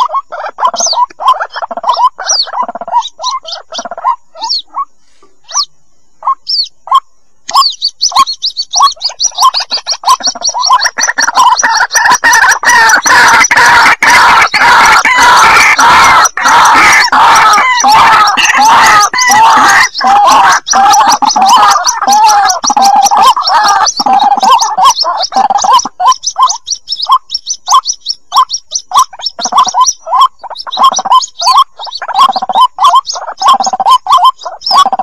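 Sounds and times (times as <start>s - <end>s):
bird chicks calling: 0.0s - 35.0s.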